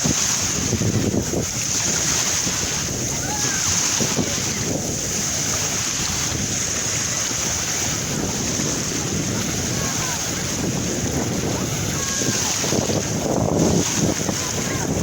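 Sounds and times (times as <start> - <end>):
sea surf washing in: 0.0 - 15.0
wind on microphone: 0.0 - 15.0.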